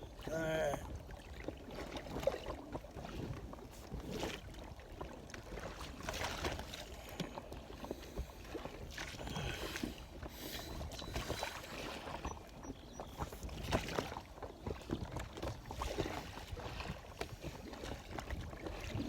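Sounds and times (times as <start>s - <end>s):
water splashing around a boat: 0.0s - 19.0s.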